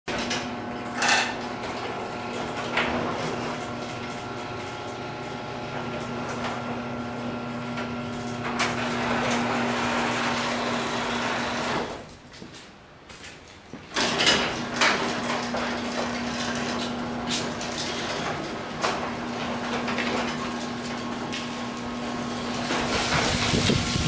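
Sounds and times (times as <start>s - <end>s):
garage door clanking: 0.1s - 12.1s, 13.9s - 24.0s
garage door opener motor hum: 0.1s - 12.1s, 13.9s - 24.0s.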